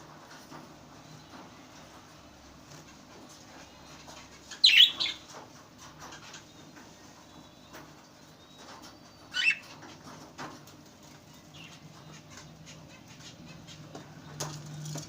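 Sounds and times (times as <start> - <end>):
light clicks and scratching: 0.2 - 15.0.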